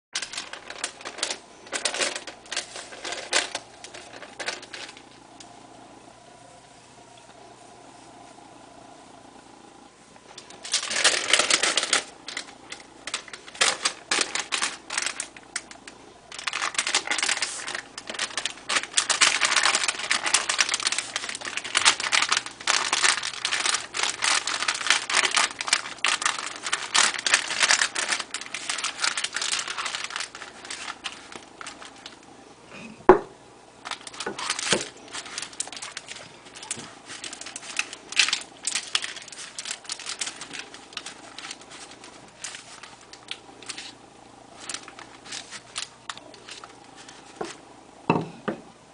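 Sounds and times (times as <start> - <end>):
parchment paper crinkling: 0.2 - 5.5, 10.3 - 32.3, 33.8 - 47.6.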